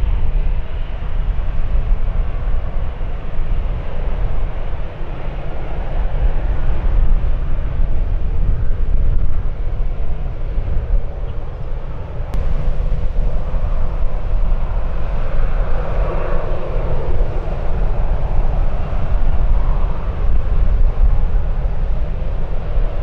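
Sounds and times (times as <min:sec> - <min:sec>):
wind buffeting microphone: 0:00.0 - 0:23.0
aircraft engines rushing: 0:02.1 - 0:23.0.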